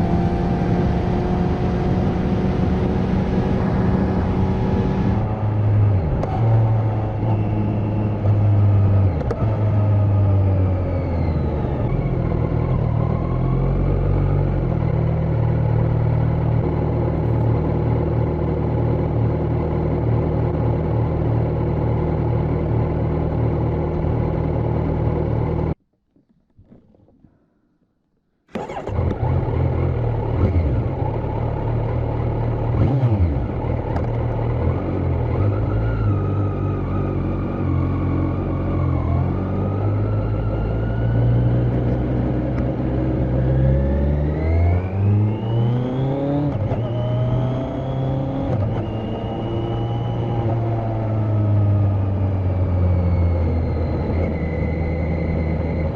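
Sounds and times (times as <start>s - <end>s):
motorcycle engine revving: 0.0s - 25.8s, 28.5s - 55.9s.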